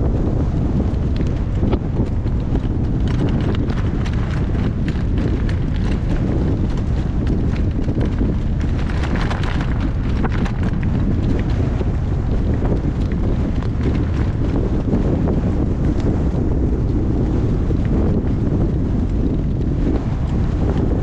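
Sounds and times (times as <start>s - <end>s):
horse hoofbeats: 0.0s - 21.0s
wind buffeting microphone: 0.0s - 21.0s.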